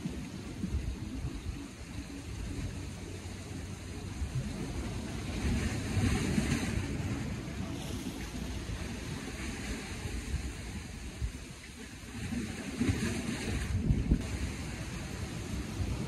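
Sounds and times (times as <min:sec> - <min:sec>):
sea washing: 0:00.0 - 0:16.0
wind buffeting microphone: 0:00.0 - 0:16.0.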